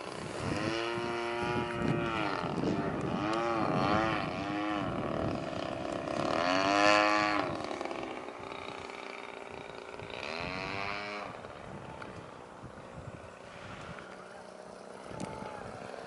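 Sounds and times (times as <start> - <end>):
model plane engine swooping: 0.0 - 16.0.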